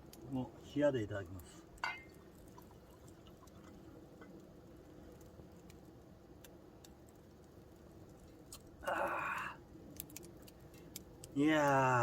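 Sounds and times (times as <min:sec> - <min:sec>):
faint wood fire crackles: 0:00.0 - 0:12.0.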